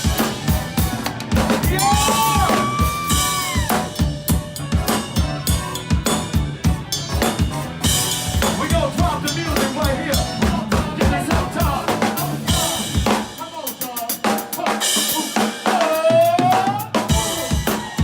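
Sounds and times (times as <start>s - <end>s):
drum kit beat: 0.0s - 18.0s
live rock band playing: 0.0s - 18.0s.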